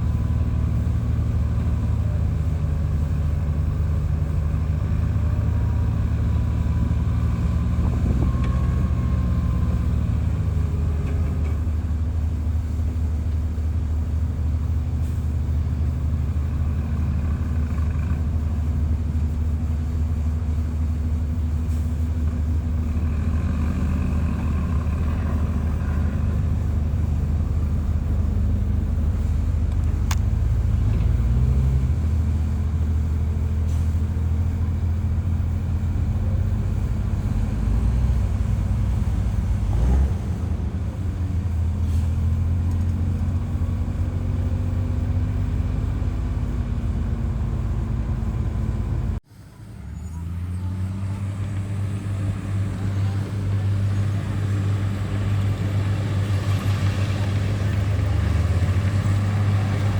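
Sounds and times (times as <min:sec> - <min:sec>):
bulldozer diesel engine drone: 0:00.0 - 0:59.9.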